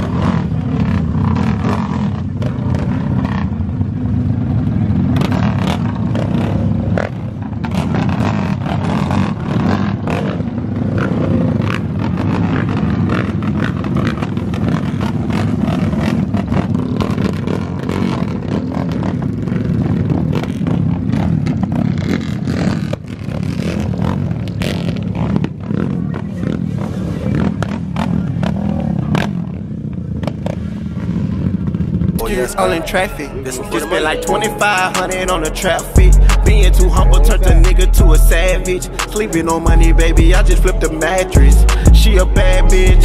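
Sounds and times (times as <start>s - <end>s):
atv engines revving: 0.0s - 43.0s.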